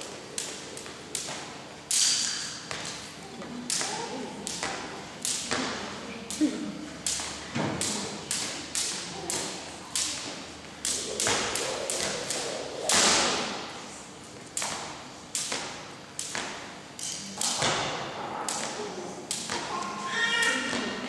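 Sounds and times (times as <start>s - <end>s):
skipping rope slapping floor: 0.0s - 21.0s.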